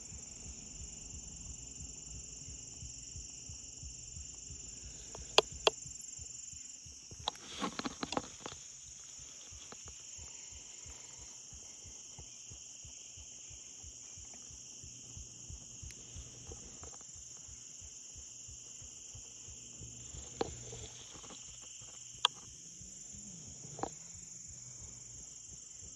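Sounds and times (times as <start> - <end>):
insects droning: 0.0 - 25.9
soft low thumps: 0.0 - 25.9.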